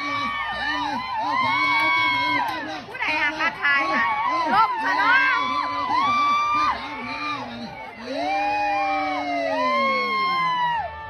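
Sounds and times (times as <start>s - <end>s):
crowd cheering: 0.0s - 11.0s
drawn-out shouts: 0.0s - 11.0s.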